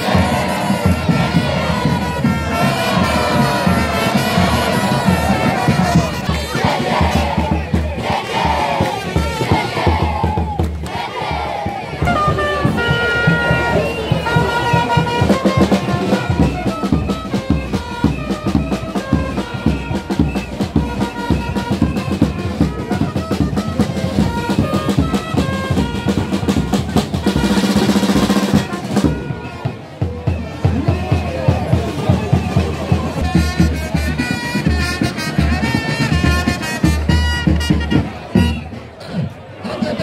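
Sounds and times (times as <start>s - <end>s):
held brass notes: 0.0s - 10.3s, 10.9s - 40.0s
busy drumbeat: 0.0s - 40.0s.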